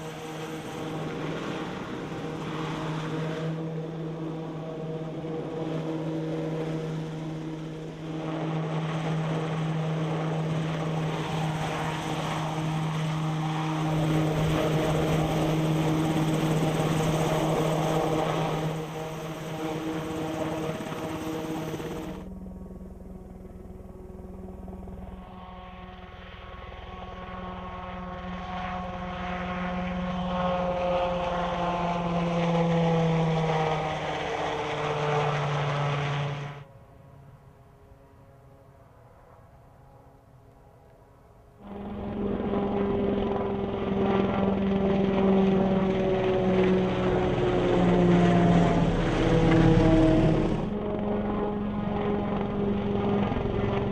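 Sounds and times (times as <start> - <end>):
helicopter in flight: 0.0 - 53.9.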